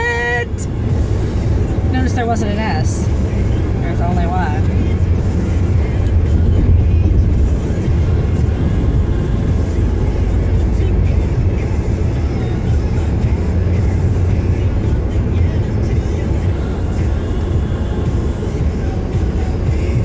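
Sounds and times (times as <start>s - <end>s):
music playing: 0.0s - 20.0s
road and engine rumble in car: 0.0s - 20.0s.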